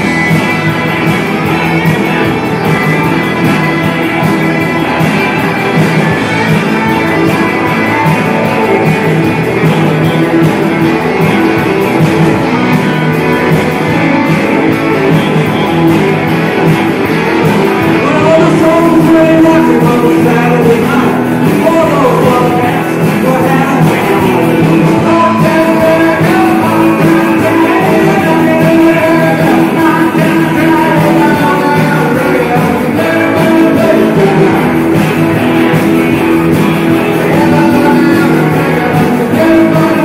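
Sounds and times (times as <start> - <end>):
person singing: 0.0 - 40.0
rock and roll guitar: 0.0 - 40.0.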